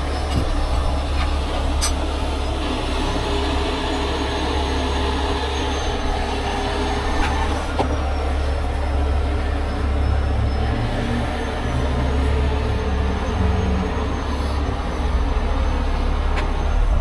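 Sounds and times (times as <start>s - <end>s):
heavy vehicle rumble: 0.0s - 17.0s.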